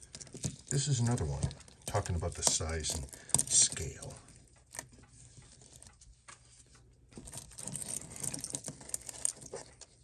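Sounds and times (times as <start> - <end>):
fingers rustling: 0.0 - 10.0.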